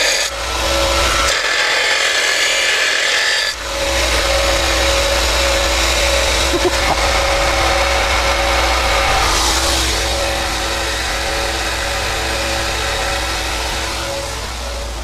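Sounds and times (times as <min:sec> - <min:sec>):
belt sander grinding: 0:00.0 - 0:15.0.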